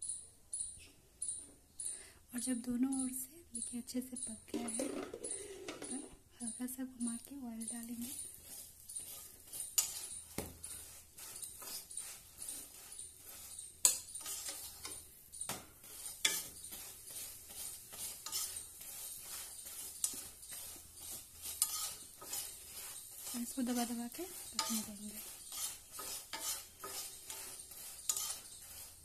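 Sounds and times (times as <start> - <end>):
faint oil sizzle: 1.9 - 29.0
metal spatula scraping iron pan: 4.3 - 29.0.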